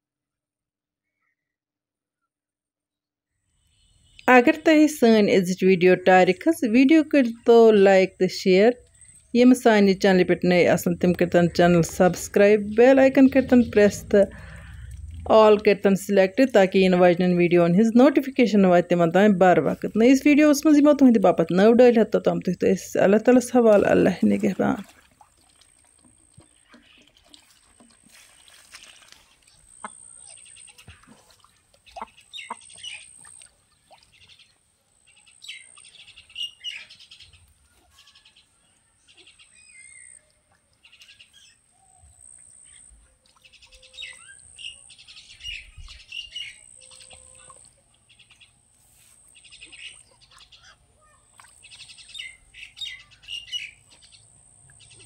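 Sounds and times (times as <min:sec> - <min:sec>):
birds chirping: 0:03.6 - 0:24.8, 0:29.3 - 0:48.7, 0:49.3 - 0:55.0.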